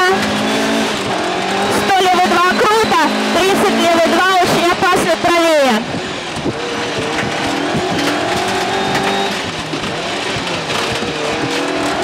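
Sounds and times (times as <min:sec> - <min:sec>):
car engine revving hard: 0:00.0 - 0:12.0
tyres rushing on gravel: 0:00.0 - 0:12.0.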